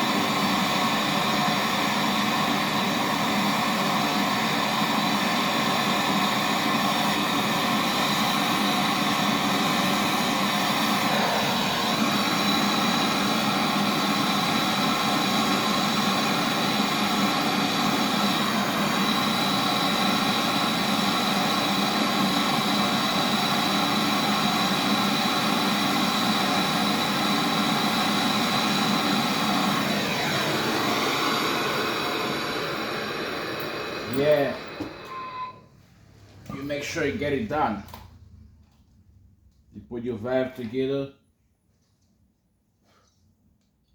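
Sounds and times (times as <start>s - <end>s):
torch flame hissing: 0.0s - 35.3s.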